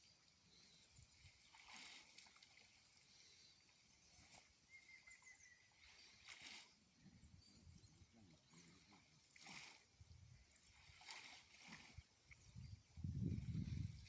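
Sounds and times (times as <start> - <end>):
water sloshing from wading: 0.0 - 14.0.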